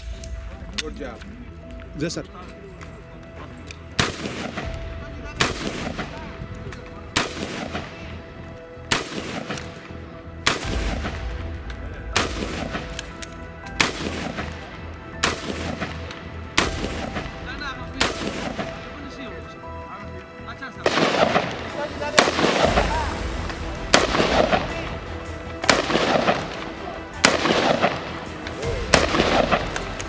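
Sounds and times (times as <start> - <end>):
rifle single shots: 3.2 - 19.6, 20.8 - 30.0
gunshot echo: 3.9 - 19.3, 20.8 - 30.0.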